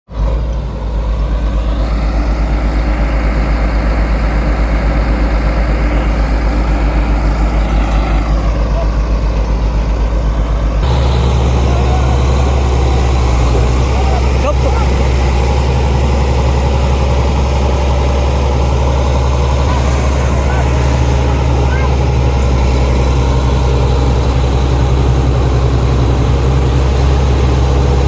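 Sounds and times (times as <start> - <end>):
bulldozer diesel engine running: 0.1 - 28.0.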